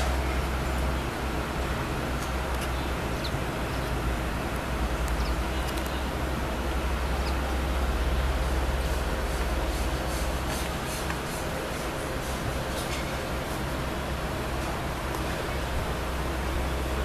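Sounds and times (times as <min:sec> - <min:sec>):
general hiss: 0:00.0 - 0:17.0
low uneven rumble: 0:00.0 - 0:17.0.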